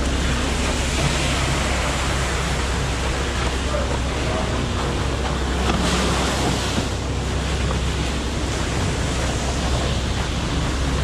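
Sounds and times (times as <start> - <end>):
truck engine humming: 0.0 - 11.0
wet concrete rushing down chute: 0.0 - 11.0.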